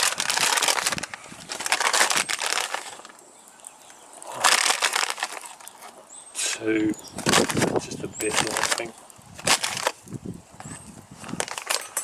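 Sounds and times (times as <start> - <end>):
ground coffee rustling and scraping: 0.0 - 3.2, 4.2 - 12.0.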